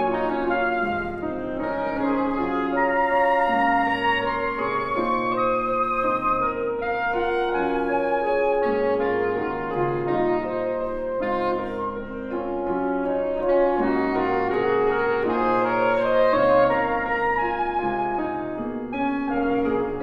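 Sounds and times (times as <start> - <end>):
piano accompaniment: 0.0 - 20.0
saxophones playing sustained notes: 0.0 - 20.0.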